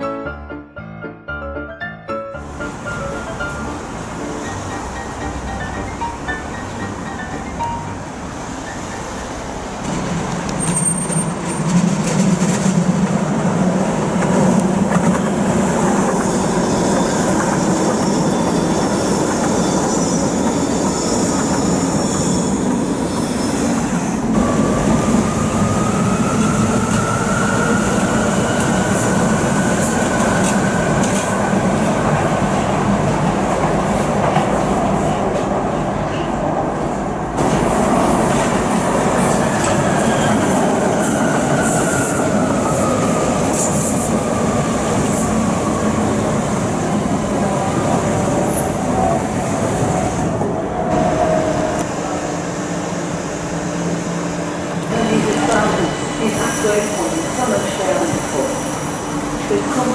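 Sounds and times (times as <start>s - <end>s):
thin train whine: 2.4s - 59.9s
train wheels rumbling on rail: 2.5s - 59.9s.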